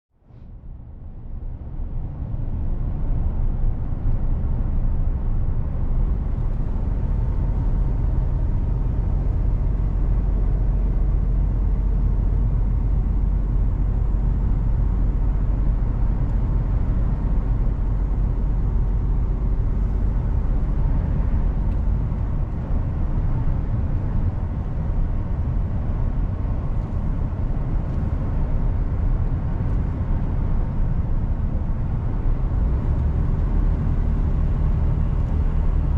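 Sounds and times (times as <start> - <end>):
road noise: 0.2 - 35.9
diesel truck engine rumble: 0.5 - 35.9.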